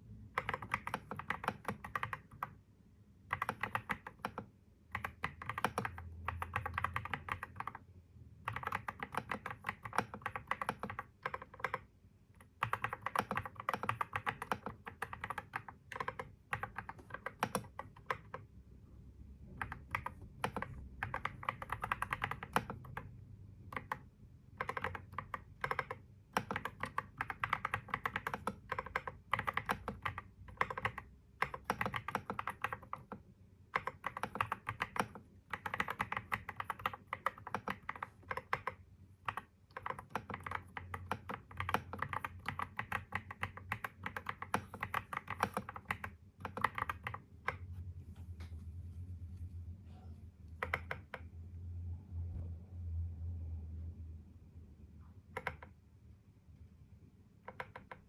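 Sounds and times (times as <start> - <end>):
keyboard typing: 0.3 - 2.6, 3.3 - 18.5, 19.5 - 47.8, 50.6 - 51.3, 55.3 - 55.8, 57.4 - 58.0.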